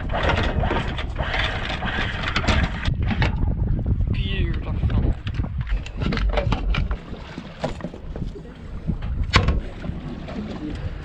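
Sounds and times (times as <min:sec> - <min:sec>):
anchor windlass rumble: 0:00.0 - 0:11.0.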